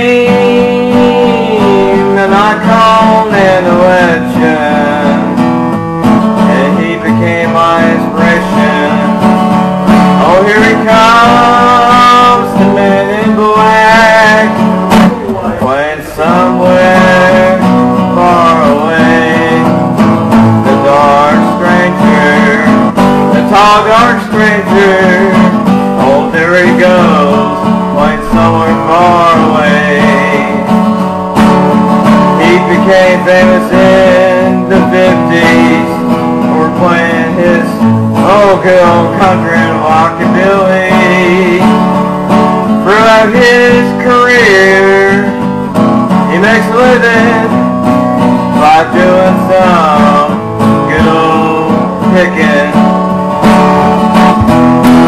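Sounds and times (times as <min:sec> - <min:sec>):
acoustic guitar: 0:00.0 - 0:55.0
man singing country song: 0:00.0 - 0:55.0.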